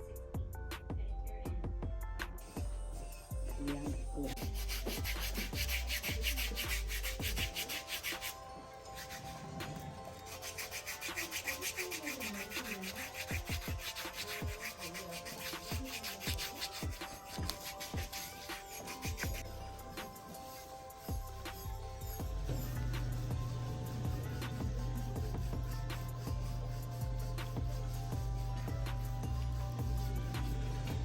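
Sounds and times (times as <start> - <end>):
pedicure file rubbing: 3.6 - 31.0.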